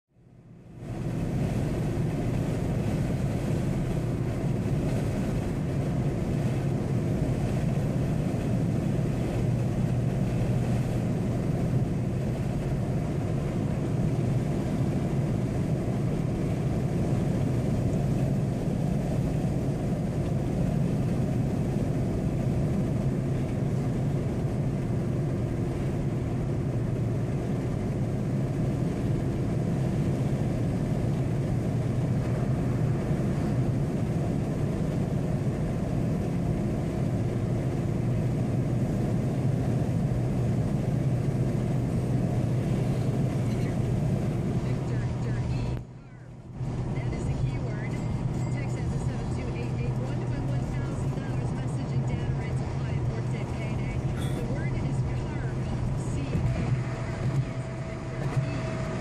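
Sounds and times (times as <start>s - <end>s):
car engine and tyres drone: 0.2s - 59.0s.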